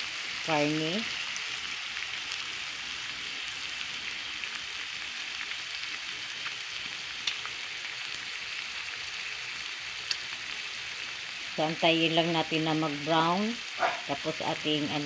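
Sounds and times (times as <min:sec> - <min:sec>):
pork sizzling in a pan: 0:00.0 - 0:15.0.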